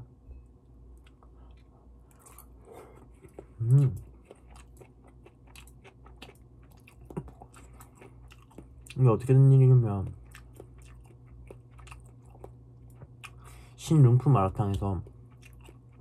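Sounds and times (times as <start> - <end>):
person chewing: 0.9 - 9.1, 10.1 - 13.7, 14.6 - 16.0.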